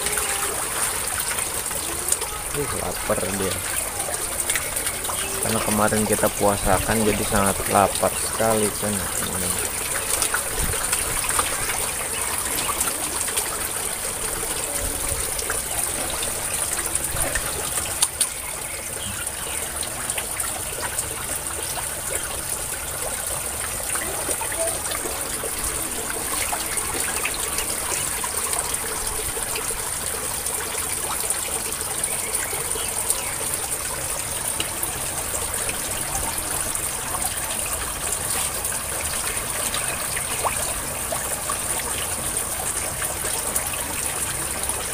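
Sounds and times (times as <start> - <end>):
fish splashing and churning water: 0.0 - 44.9.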